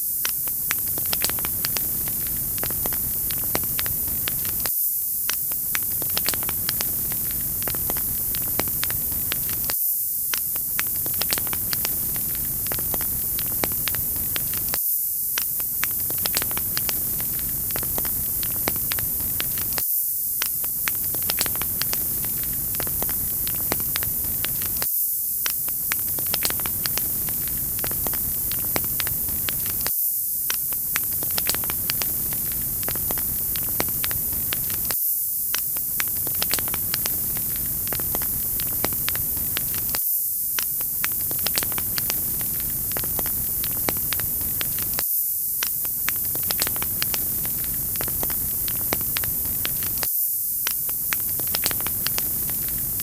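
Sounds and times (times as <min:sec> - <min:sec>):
wood fire crackling and popping: 0:00.2 - 0:19.8, 0:20.4 - 0:53.0.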